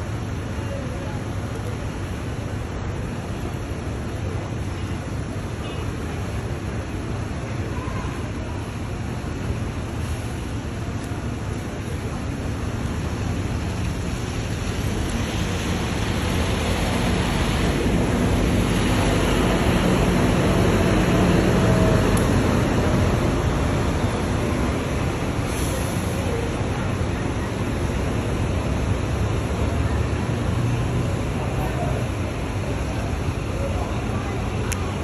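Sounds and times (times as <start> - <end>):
buses rumbling: 0.0 - 35.0
nearby bus engine: 0.3 - 35.0.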